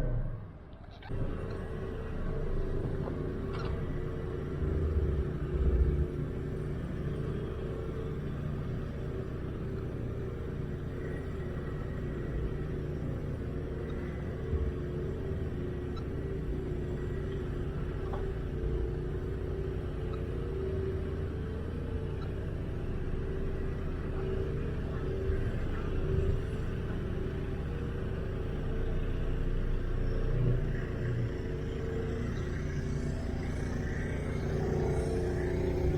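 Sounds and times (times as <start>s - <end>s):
snow-clearing machine engine running: 1.0s - 35.9s.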